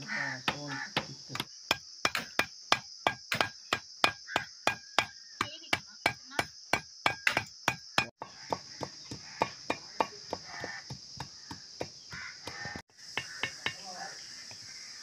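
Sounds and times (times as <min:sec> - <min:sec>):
sickle chopping bamboo on wood: 0:00.0 - 0:05.2, 0:05.8 - 0:14.8.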